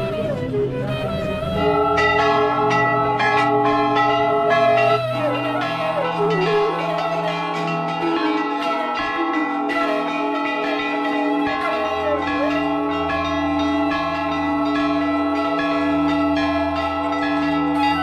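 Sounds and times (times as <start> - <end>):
large brass bells ringing: 0.0 - 18.0.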